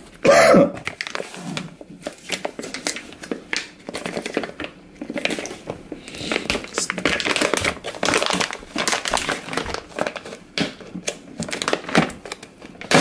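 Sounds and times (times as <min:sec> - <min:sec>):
plastic bag crinkling: 0:00.8 - 0:13.0.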